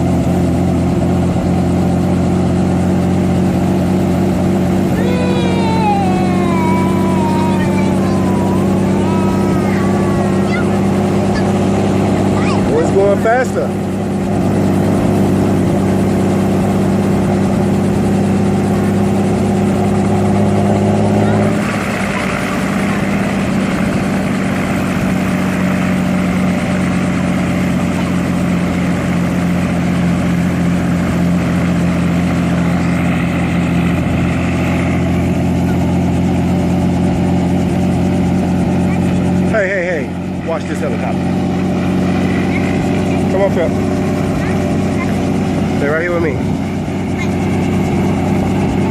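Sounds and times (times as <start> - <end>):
engine running with loud hum: 0.0 - 48.9.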